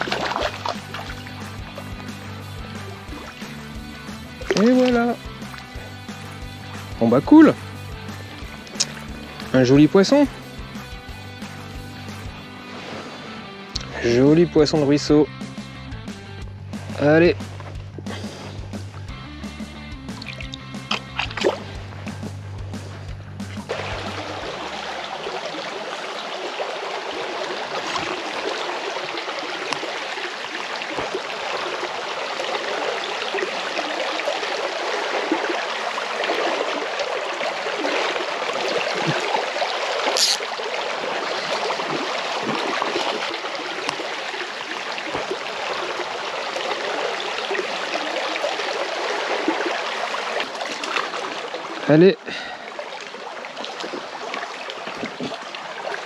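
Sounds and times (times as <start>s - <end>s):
stream running over stones: 0.0s - 11.7s, 20.1s - 21.8s, 23.6s - 56.0s.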